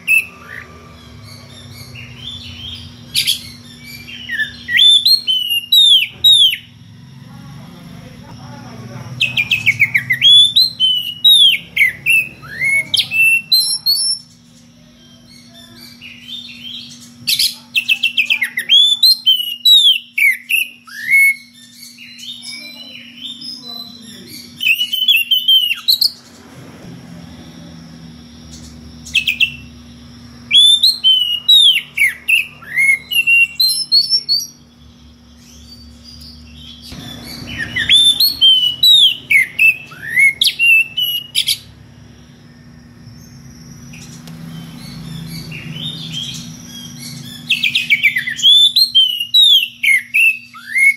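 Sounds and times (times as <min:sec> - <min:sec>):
songbird whistling and chirping: 0:00.0 - 0:06.8, 0:09.2 - 0:26.2, 0:28.4 - 0:50.9.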